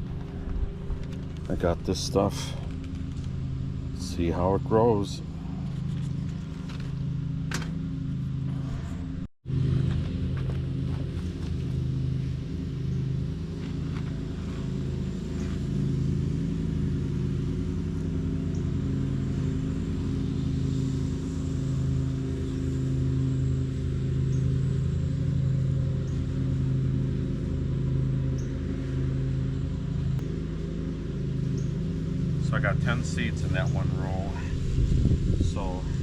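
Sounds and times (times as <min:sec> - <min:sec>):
motor engine running steadily: 0:00.0 - 0:36.0.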